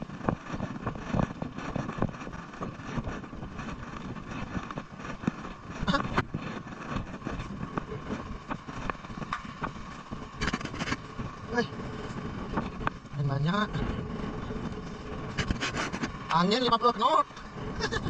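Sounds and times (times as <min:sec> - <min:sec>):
outdoor rumble: 0:00.0 - 0:18.0.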